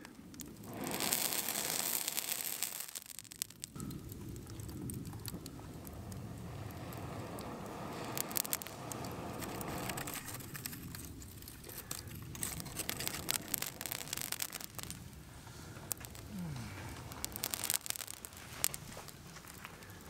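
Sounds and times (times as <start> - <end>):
campfire embers crackling and popping: 0.0 - 20.0.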